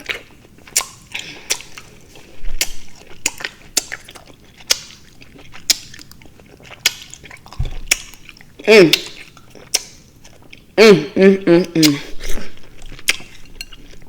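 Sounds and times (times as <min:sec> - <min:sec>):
close-up chewing of juicy fruit: 0:00.0 - 0:10.8, 0:11.6 - 0:14.0.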